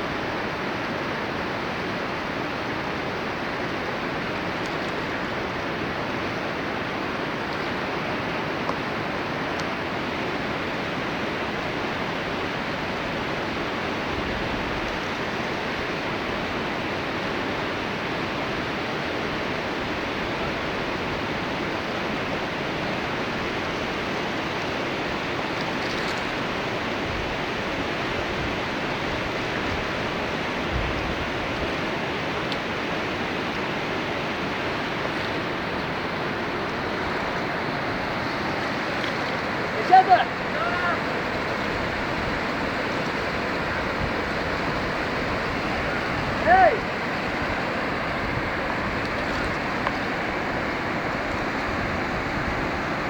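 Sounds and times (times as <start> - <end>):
storm water rushing in channels: 0.0 - 53.0.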